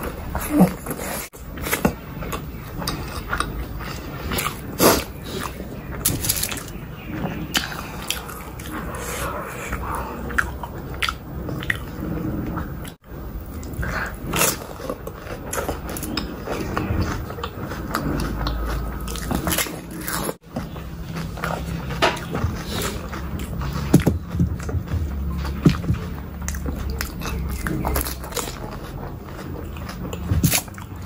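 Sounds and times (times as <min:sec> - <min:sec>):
crunching and wet chewing: 0:00.0 - 0:31.0.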